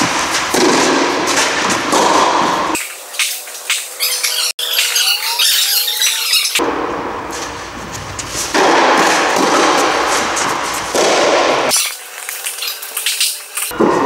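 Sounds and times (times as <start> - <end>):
tennis balls hit with rackets: 0.0 - 5.4, 6.6 - 14.0.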